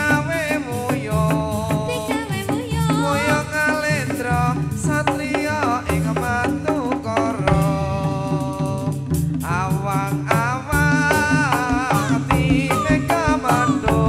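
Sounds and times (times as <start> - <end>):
person singing wavering melody: 0.0 - 9.0, 9.8 - 14.0
gamelan pitched percussion: 0.0 - 14.0
hand drums beating: 0.0 - 14.0.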